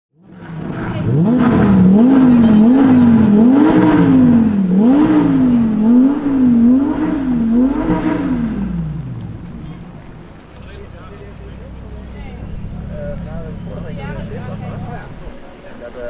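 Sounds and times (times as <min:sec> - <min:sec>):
car exhaust revving: 0:00.2 - 0:15.4.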